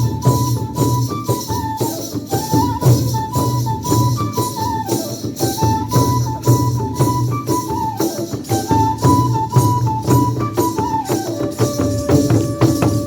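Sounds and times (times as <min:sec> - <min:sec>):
drum beat: 0:00.0 - 0:13.0
flute melody: 0:00.0 - 0:13.0
jingling metal percussion: 0:00.0 - 0:13.0.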